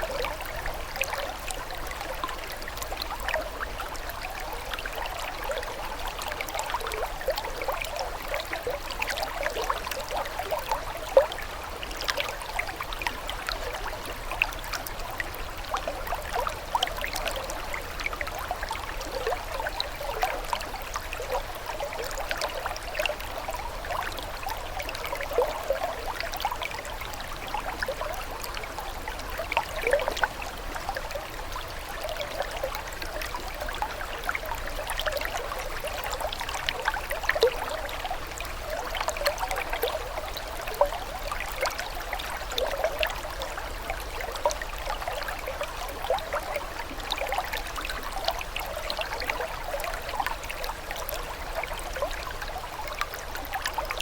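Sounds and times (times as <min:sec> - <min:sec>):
small water splashes: 0:00.0 - 0:54.0
water trickling and babbling: 0:00.0 - 0:54.0.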